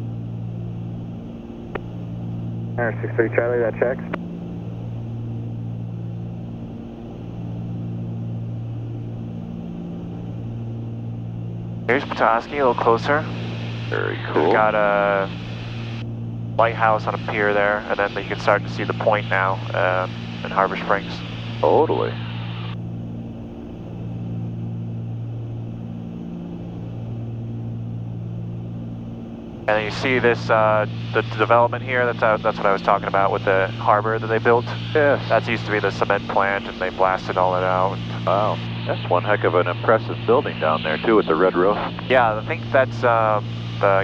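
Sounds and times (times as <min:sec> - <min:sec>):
airplane engines droning: 0:00.0 - 0:44.0.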